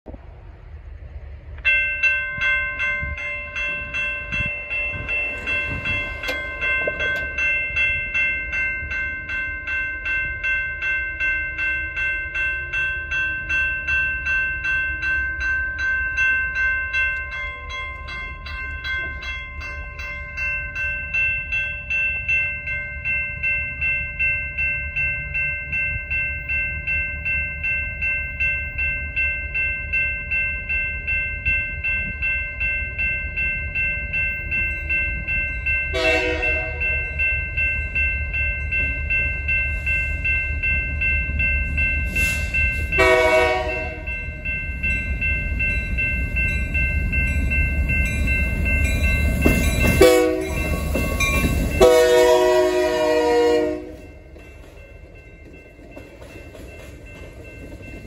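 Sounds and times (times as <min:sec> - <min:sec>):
railroad crossing bell ringing: 0:00.6 - 0:58.0.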